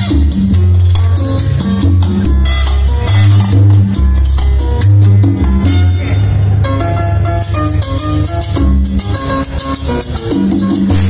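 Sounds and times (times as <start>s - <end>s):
loud dance music from car speakers: 0.0s - 11.0s.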